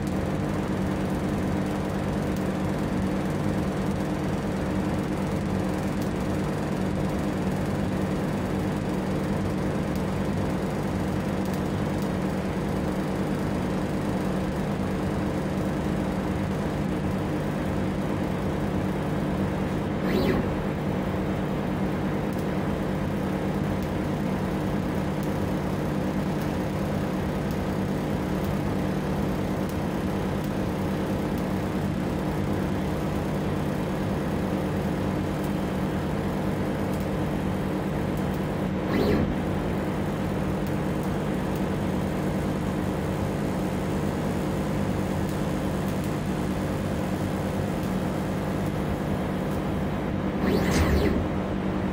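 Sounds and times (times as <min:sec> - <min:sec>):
laser engraver humming: 0:00.0 - 0:51.9.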